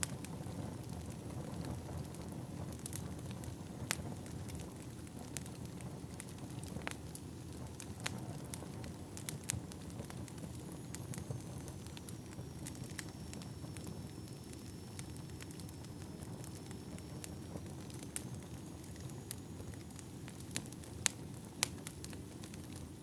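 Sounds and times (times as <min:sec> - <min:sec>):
firewood crackling and popping: 0:00.0 - 0:23.0.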